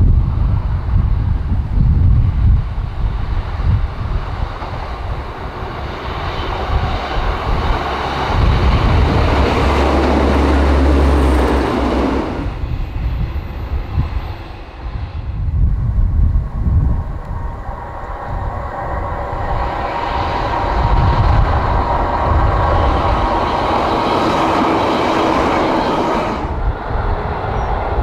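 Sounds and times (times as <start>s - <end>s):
diesel train passing: 0.0s - 28.0s
wind rumble on microphone: 0.0s - 28.0s.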